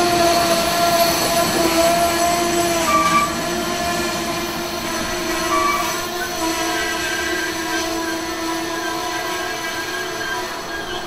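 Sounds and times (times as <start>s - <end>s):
train rolling on rails: 0.0s - 11.0s.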